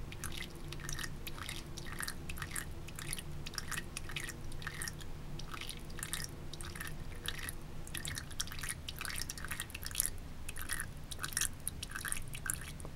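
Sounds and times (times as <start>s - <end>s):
water splashes and drips: 0.1s - 12.9s
water trickling from faucet: 0.1s - 12.9s.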